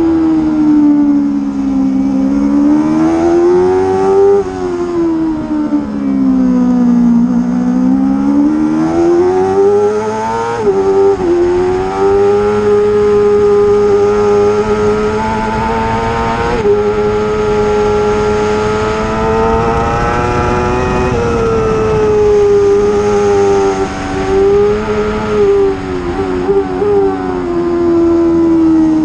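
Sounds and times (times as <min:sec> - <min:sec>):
motorcycle engine at high revs: 0:00.0 - 0:29.0.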